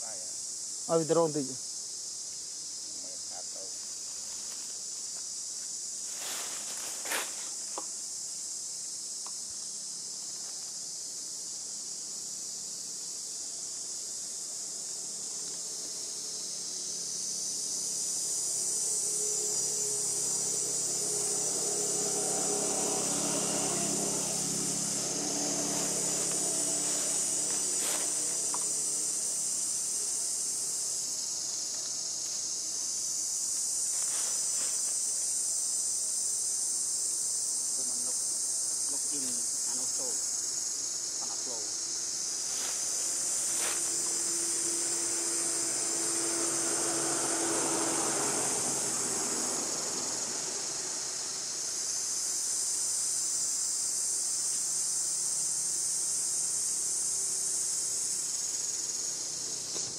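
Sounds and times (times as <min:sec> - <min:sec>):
insect chorus buzzing: 0:00.0 - 0:59.9.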